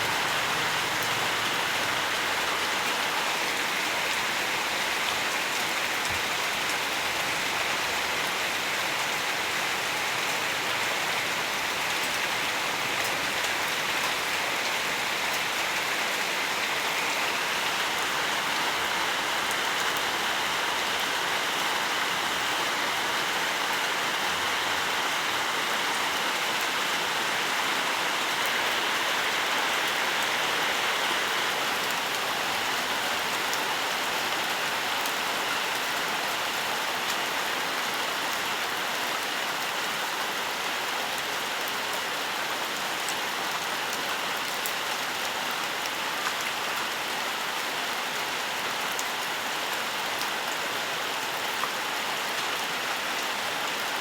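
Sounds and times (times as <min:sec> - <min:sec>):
rain hissing in a forest: 0:00.0 - 0:54.0.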